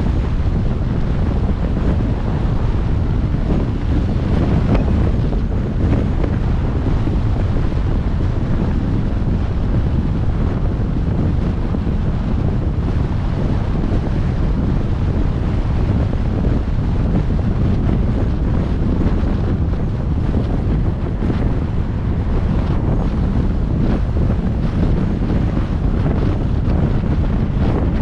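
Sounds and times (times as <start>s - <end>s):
wind rumbling over microphone: 0.0s - 28.0s.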